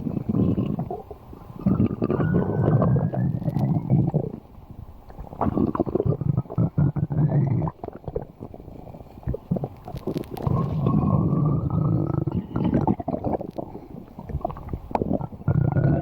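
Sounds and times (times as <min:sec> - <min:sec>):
stomach growling: 0:00.0 - 0:16.0.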